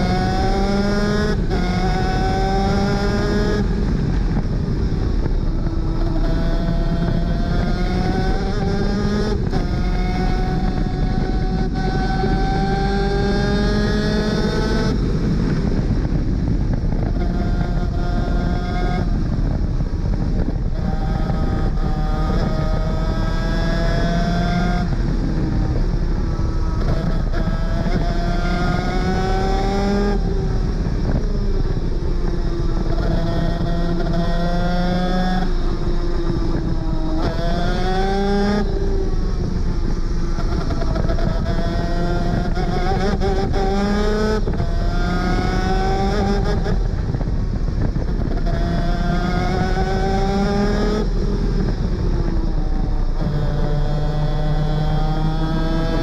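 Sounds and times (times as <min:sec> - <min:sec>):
two-stroke kart engine racing: 0:00.0 - 0:56.0.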